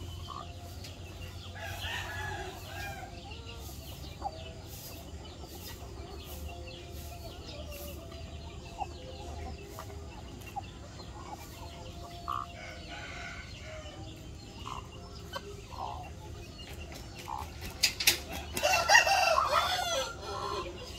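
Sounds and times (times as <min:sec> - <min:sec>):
chicken calls: 0:00.0 - 0:20.9.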